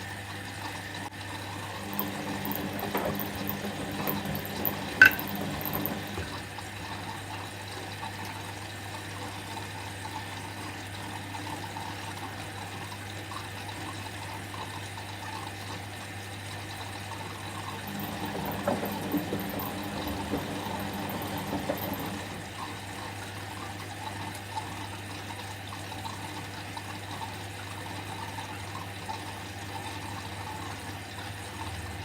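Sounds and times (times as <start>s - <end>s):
washing machine hum: 0.0s - 32.0s
water running into washing machine: 0.0s - 32.0s.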